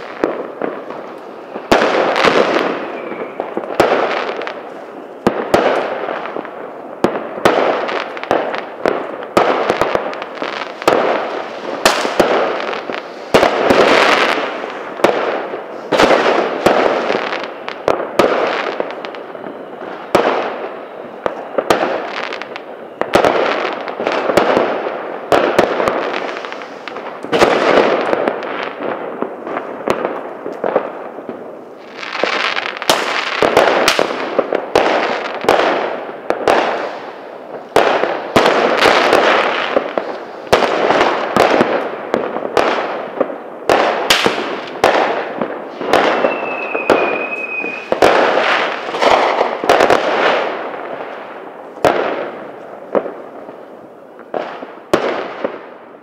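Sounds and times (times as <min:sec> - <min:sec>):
fireworks and firecrackers banging: 0:00.0 - 0:56.0.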